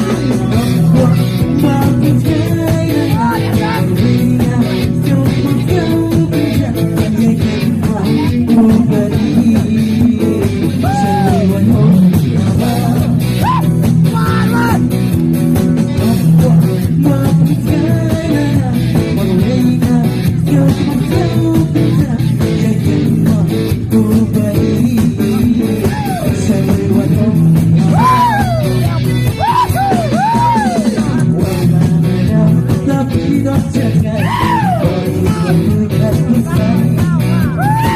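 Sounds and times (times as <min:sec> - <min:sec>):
bass guitar: 0:00.0 - 0:37.9
drum kit: 0:00.0 - 0:37.9
electric guitars: 0:00.0 - 0:37.9
male singer: 0:00.0 - 0:37.9.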